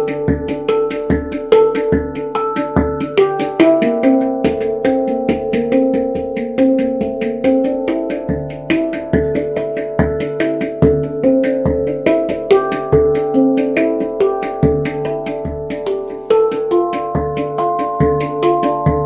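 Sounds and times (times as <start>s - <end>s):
handpan deep bass tones: 0.0s - 19.0s
handpan ringing notes: 0.0s - 19.0s.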